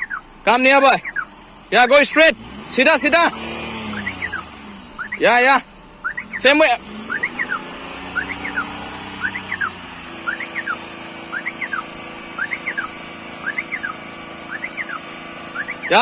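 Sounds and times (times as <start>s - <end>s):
reversing alarm chirping: 0.0s - 1.4s, 3.2s - 16.0s.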